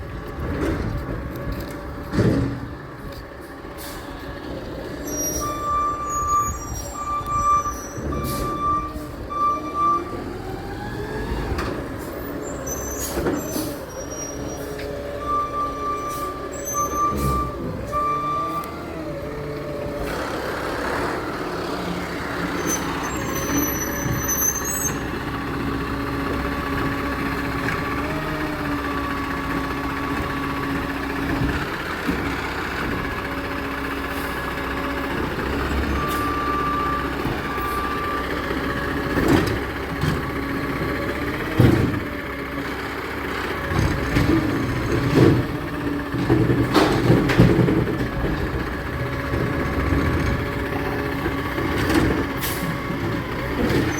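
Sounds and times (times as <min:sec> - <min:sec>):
garbage truck engine running: 0:10.1 - 0:53.9.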